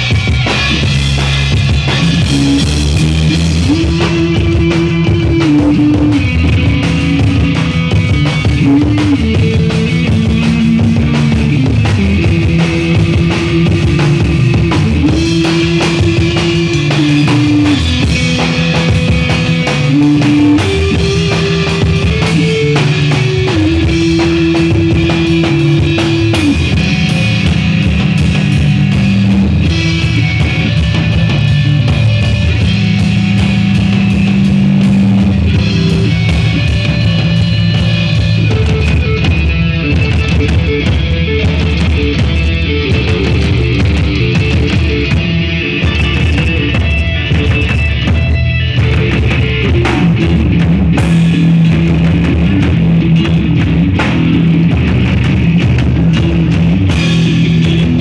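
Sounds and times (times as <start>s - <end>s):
instrumental rock band playing: 0.0s - 58.0s.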